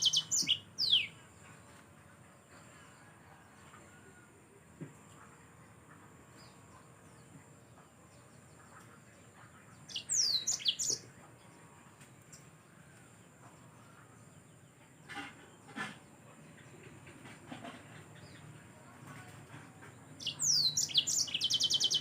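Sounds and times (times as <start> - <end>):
faint background chirping: 0.0 - 22.0.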